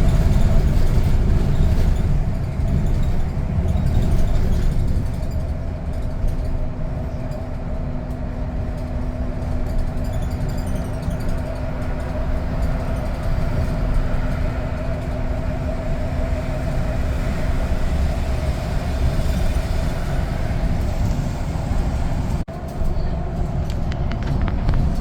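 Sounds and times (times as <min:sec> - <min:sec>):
constant hum: 0:00.0 - 0:25.0
vehicle rumbling: 0:00.0 - 0:25.0.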